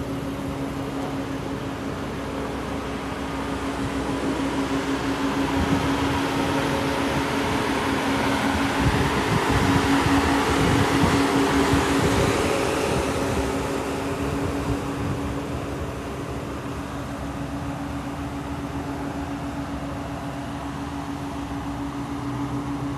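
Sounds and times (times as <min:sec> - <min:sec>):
car engine idling: 0:00.0 - 0:22.9
cooling fan whooshing hum: 0:00.0 - 0:22.9.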